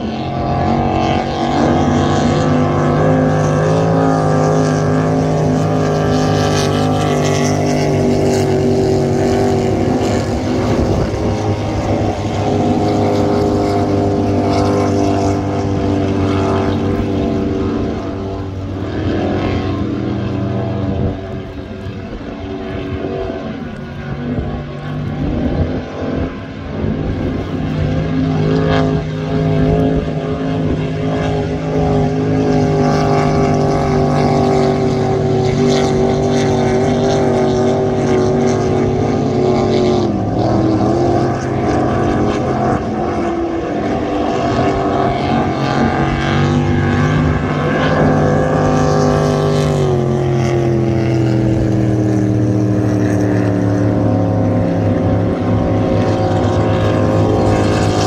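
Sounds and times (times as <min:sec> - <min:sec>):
race boat engines droning: 0:00.0 - 0:58.0.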